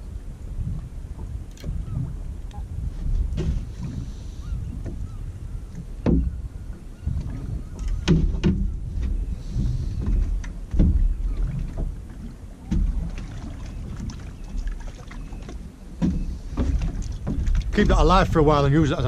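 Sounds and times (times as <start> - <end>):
low wind rumble: 0.0 - 19.0
knocks and bumps in boat: 0.6 - 19.0.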